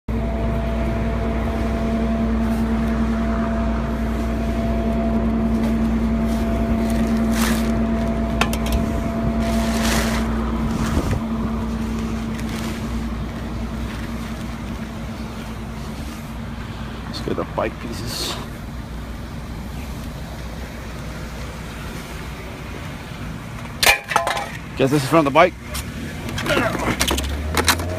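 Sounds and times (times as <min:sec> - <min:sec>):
vehicle engine and road noise: 0:00.0 - 0:27.9
droning hum: 0:00.1 - 0:27.9.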